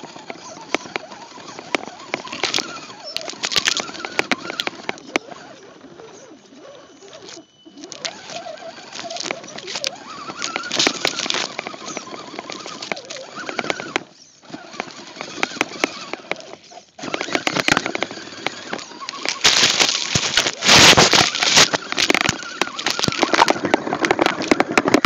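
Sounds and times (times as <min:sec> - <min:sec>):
electric motor drive: 0:00.0 - 0:25.0
grass crackling and brushing: 0:00.9 - 0:05.6, 0:07.0 - 0:25.0.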